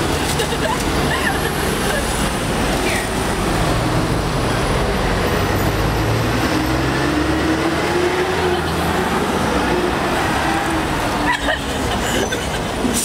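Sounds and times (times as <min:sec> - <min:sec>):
steady traffic rumble: 0:00.0 - 0:13.0.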